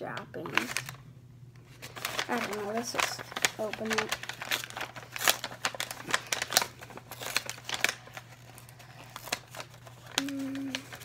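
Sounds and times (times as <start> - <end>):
paper bag crinkling: 0.4 - 1.0, 1.7 - 11.0.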